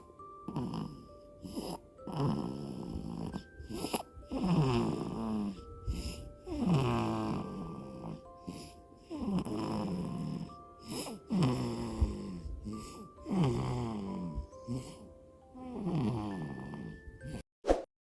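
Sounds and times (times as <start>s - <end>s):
baby snoring: 0.0s - 17.4s
soft melody: 0.0s - 17.4s.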